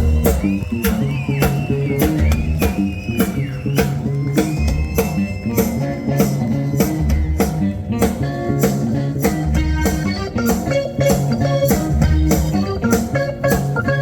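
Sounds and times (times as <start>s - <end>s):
live blues band playing: 0.0s - 14.0s.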